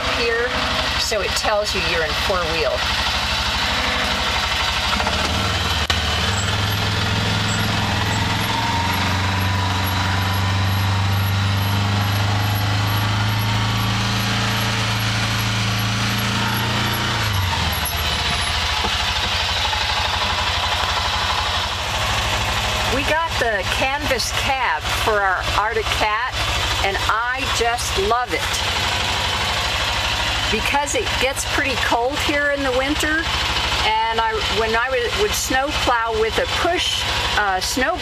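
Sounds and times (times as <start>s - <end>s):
vehicle engine running under load: 0.0s - 38.0s.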